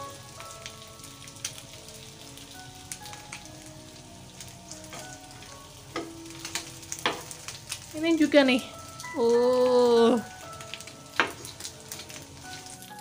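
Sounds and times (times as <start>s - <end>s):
chicken sizzling on grill pan: 0.0s - 13.0s
soft background music: 0.0s - 13.0s.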